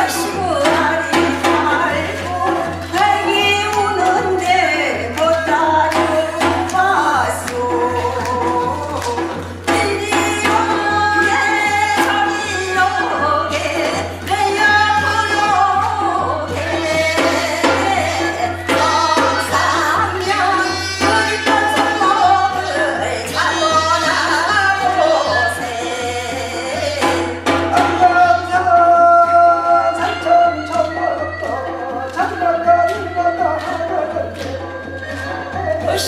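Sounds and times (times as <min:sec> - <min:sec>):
drum strokes: 0:00.0 - 0:30.7
person singing folk song: 0:00.0 - 0:36.0.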